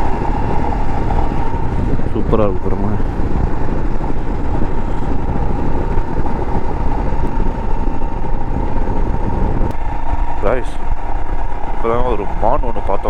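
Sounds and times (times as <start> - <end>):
motorcycle engine running: 0.0 - 13.0
thin whine: 0.0 - 13.0
wind noise: 0.0 - 13.0.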